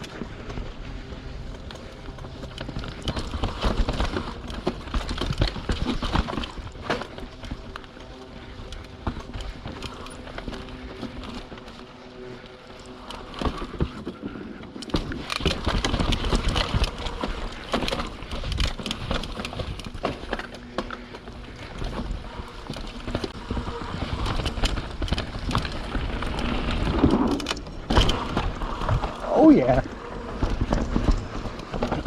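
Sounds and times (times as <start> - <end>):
bike clattering and rattling: 0.0 - 32.0
bike tyres on dirt trail: 0.0 - 32.0.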